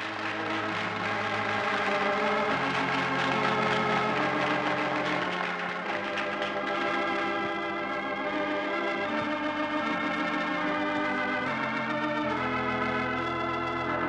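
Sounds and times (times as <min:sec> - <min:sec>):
organ playing held chords: 0:00.0 - 0:14.0.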